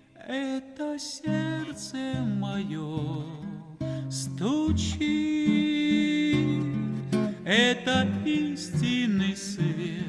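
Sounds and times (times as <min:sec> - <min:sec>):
plucked string accompaniment: 0:01.3 - 0:10.0.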